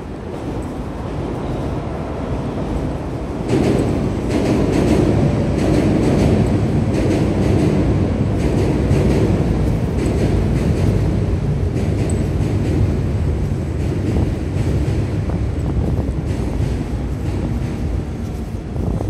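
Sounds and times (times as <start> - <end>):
train rumble passing close: 0.0 - 19.0
wheels clacking over rails: 2.6 - 19.0.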